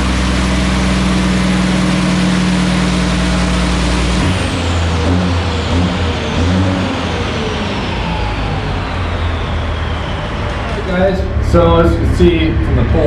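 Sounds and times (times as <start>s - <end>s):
dyno rollers whining: 0.0s - 13.0s
high-rev diesel engine: 0.0s - 13.0s
turbo whine spinning down: 0.0s - 13.0s.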